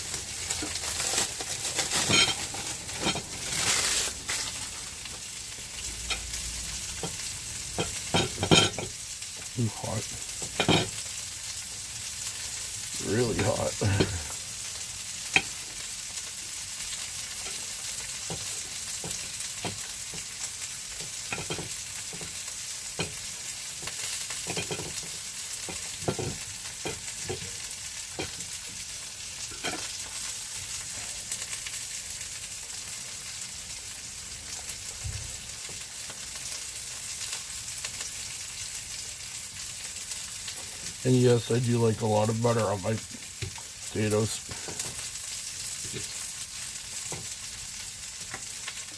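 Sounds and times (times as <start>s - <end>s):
potatoes sizzling in a pan: 0.0s - 48.9s.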